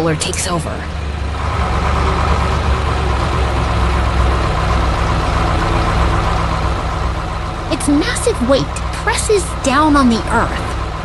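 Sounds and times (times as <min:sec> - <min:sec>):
heavy engine running at low revs: 0:00.0 - 0:11.0.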